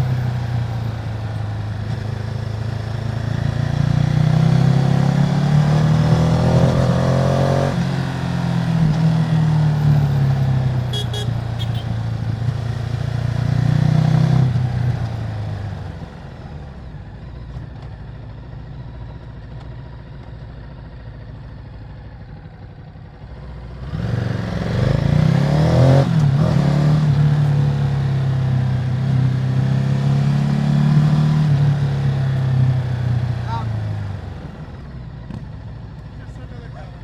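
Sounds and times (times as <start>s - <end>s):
motorcycle engine revving: 0.0s - 16.3s, 23.6s - 37.0s.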